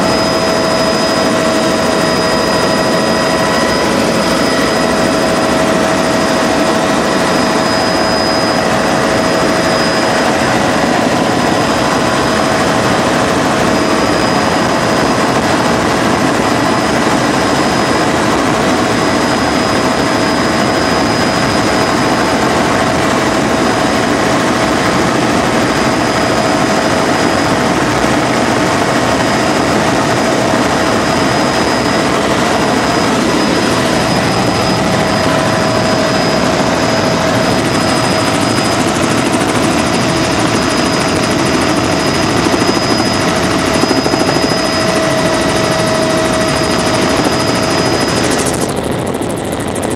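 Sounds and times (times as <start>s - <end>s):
helicopter rotor and engine noise: 0.0s - 49.9s
whining tones: 0.0s - 49.9s.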